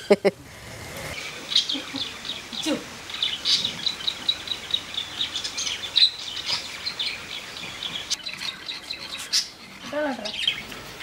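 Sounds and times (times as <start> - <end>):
small birds chirping: 1.0 - 11.0.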